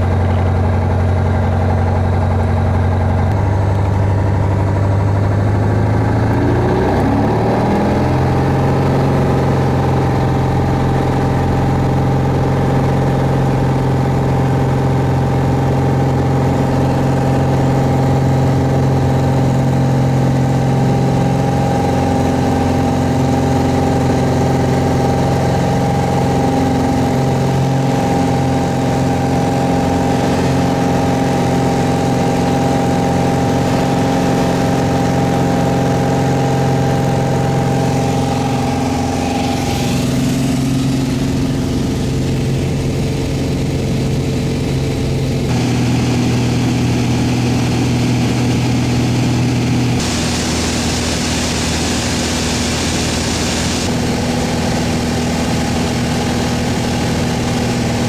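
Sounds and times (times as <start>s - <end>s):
piston engine and propeller: 0.0s - 58.0s.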